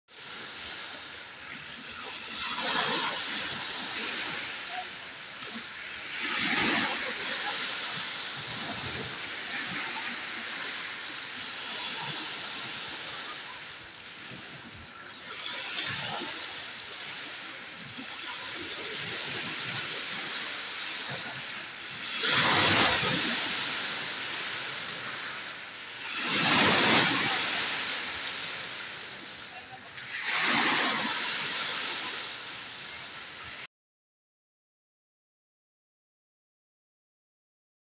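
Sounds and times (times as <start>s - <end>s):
waves washing over pebble beach: 0.2s - 33.4s.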